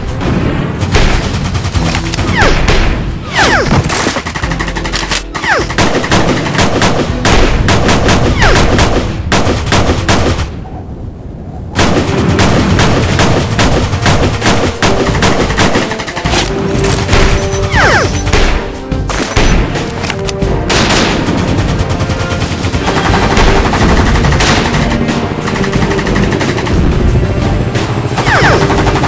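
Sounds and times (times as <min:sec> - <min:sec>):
machine-gun and rifle shots: 0:00.0 - 0:10.5, 0:11.8 - 0:20.0, 0:20.6 - 0:27.0, 0:27.8 - 0:29.0.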